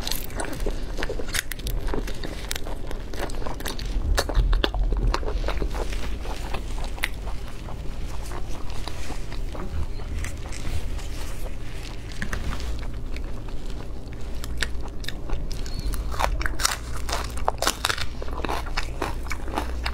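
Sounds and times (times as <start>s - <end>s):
wet chewing and lip smacks: 0.1s - 19.9s.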